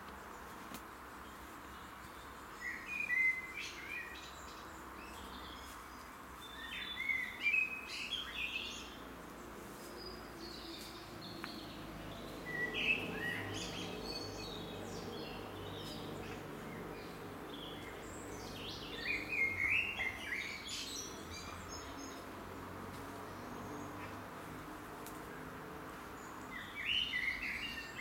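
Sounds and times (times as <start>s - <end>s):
background hiss: 0.0s - 28.0s.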